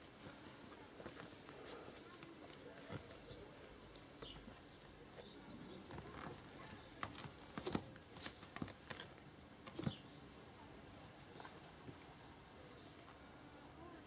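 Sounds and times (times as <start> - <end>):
kittens' paws pattering: 0.1 - 13.3.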